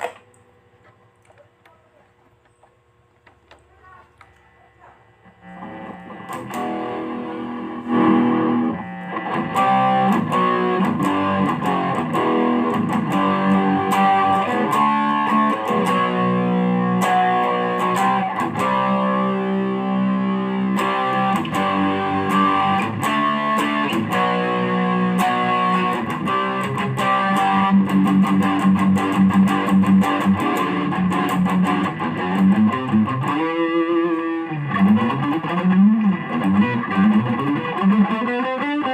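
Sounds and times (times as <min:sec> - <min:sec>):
electric guitar playing: 0:05.2 - 0:38.9.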